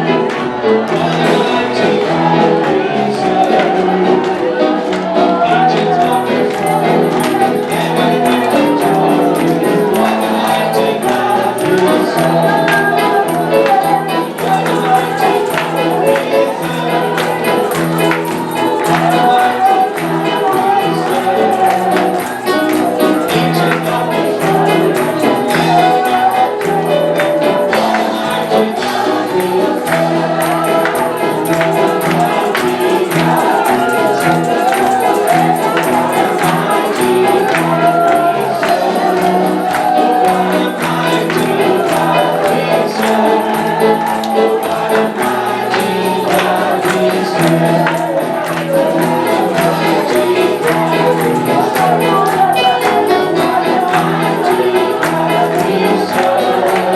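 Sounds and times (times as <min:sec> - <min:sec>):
band with bass line: 0:00.0 - 0:56.9
choir and congregation singing: 0:00.0 - 0:56.9
tambourine shaking: 0:00.3 - 0:56.9.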